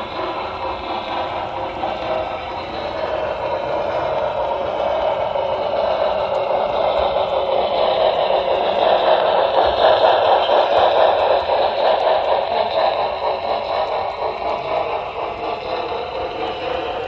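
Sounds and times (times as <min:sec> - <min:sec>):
model train whirring on rails: 0:00.0 - 0:17.0.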